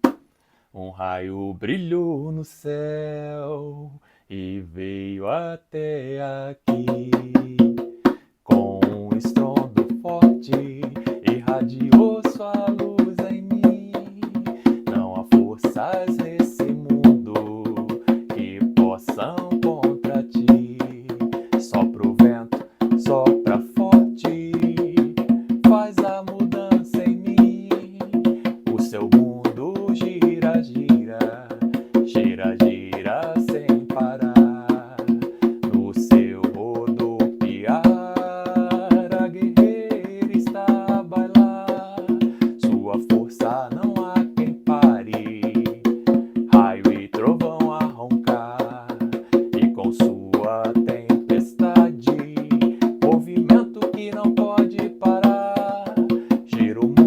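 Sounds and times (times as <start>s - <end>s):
hand drums: 0.0s - 0.2s, 6.7s - 57.0s
person singing: 0.8s - 7.9s, 8.5s - 57.0s.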